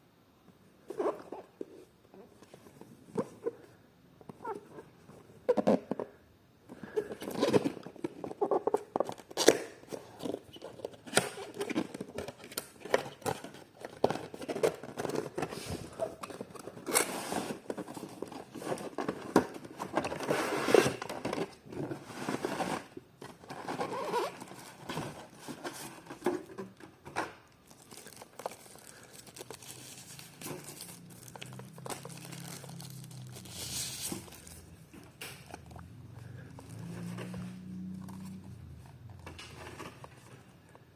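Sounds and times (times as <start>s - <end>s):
plastic and paper crinkling: 6.8s - 40.9s.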